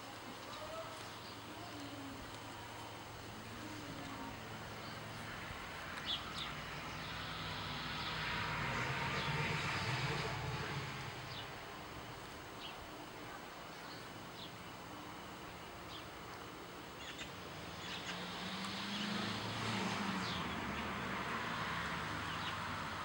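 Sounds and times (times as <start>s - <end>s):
distant engine hum: 0.0s - 23.0s.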